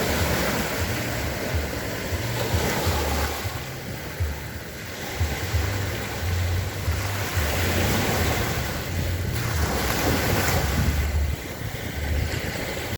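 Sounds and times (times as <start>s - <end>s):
surf washing on shore: 0.0s - 12.9s
wind buffeting microphone: 0.0s - 12.9s.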